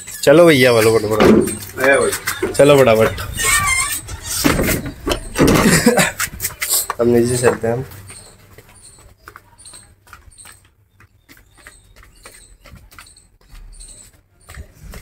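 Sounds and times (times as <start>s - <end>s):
footsteps walking down: 0.0s - 15.0s.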